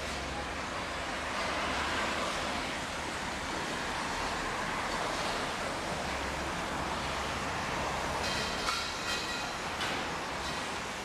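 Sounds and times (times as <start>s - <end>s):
passing vehicles rumble: 0.0s - 11.0s.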